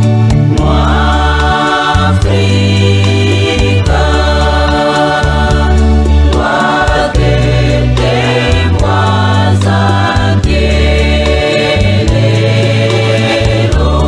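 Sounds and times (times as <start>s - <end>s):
choir singing gospel: 0.0s - 14.0s
low sustained bass notes: 0.0s - 14.0s.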